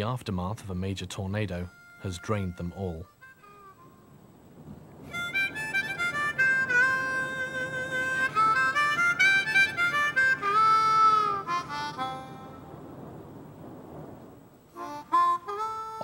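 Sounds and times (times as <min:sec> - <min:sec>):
harmonica slow melody: 0:01.5 - 0:13.2, 0:14.7 - 0:16.0.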